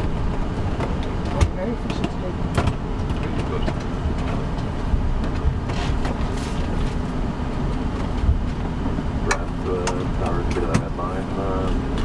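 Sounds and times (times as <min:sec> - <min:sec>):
cockpit low rumble and hiss: 0:00.0 - 0:12.0.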